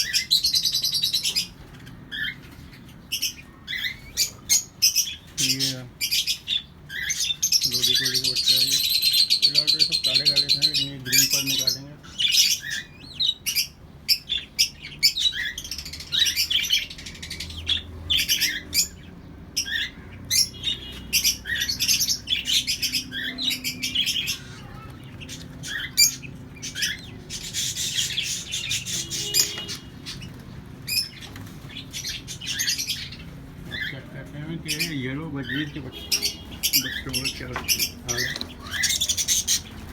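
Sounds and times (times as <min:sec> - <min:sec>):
caged birds chirping and squawking: 0:00.0 - 0:39.9.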